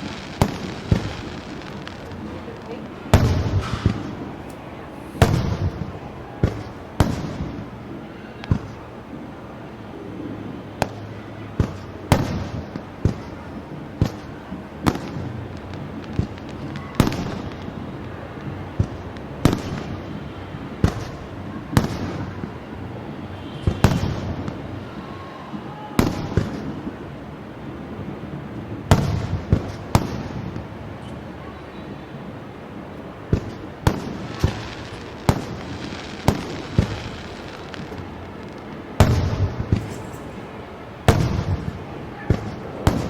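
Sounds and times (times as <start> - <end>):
fireworks bangs echoing: 0.0 - 43.0.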